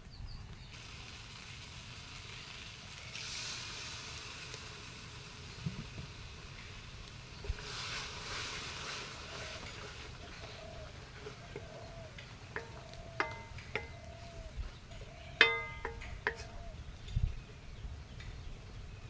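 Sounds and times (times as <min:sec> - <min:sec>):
vegetables sizzling in a pan: 0:00.6 - 0:16.6.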